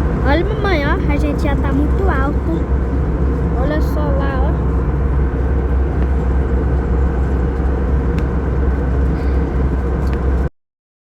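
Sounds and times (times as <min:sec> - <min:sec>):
even hum: 0:00.0 - 0:10.5
vehicle interior rumbling drone: 0:00.0 - 0:10.5.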